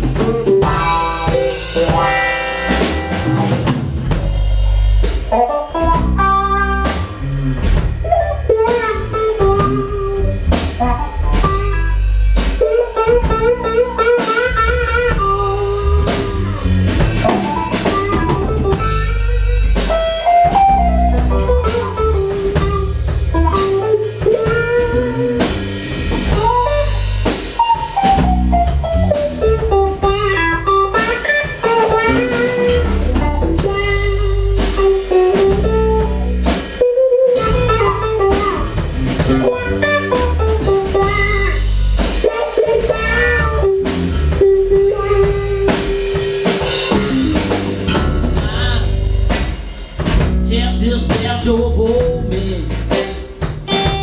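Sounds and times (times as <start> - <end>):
lead guitar solo with bent notes: 0.0 - 4.2, 5.2 - 49.1, 53.6 - 54.0
bass guitar: 0.0 - 54.0
drum kit: 0.0 - 54.0.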